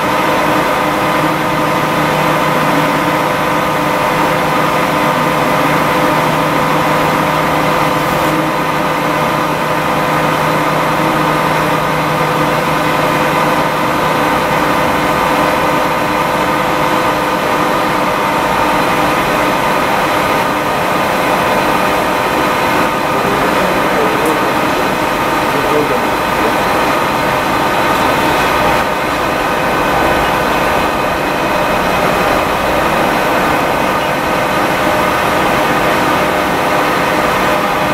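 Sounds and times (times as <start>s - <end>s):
lathe humming and whining: 0.0s - 37.9s.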